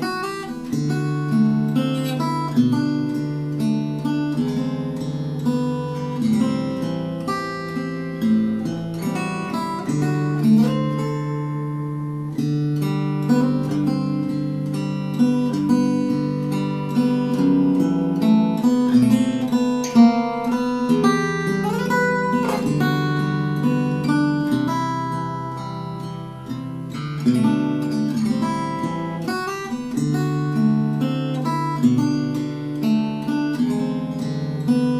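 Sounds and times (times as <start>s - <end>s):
fingerstyle acoustic guitar: 0.0s - 34.9s.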